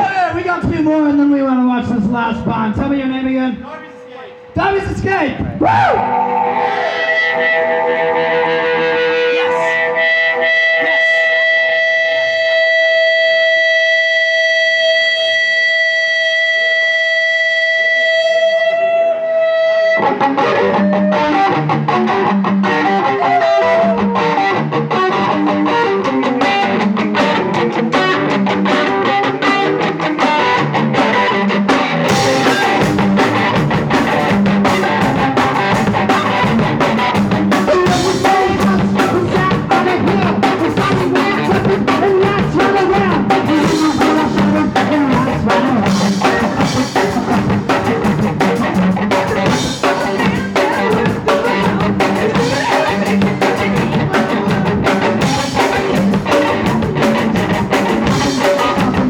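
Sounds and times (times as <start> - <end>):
punk rock band playing: 0.0 - 59.0
distorted electric guitar drone: 3.6 - 59.0.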